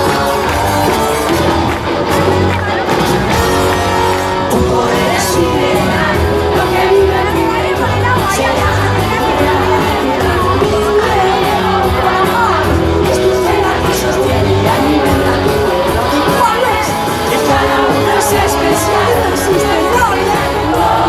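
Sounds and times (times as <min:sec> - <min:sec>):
band playing: 0:00.0 - 0:21.0
crowd singing and shouting: 0:00.0 - 0:21.0
lead singer singing: 0:03.6 - 0:21.0.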